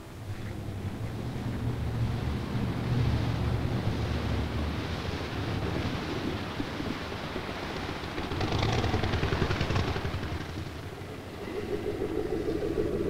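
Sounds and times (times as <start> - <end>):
steady rushing noise: 0.0 - 13.0
vehicle engine rumbling low: 0.0 - 13.0.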